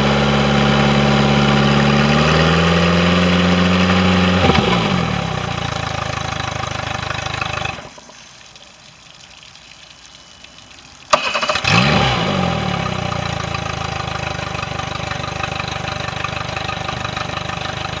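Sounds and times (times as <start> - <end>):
outboard motor revving: 0.0 - 8.2, 11.1 - 18.0
outboard motor idling: 0.0 - 8.3, 11.1 - 18.0
motor cranking: 0.0 - 8.4, 11.1 - 18.0.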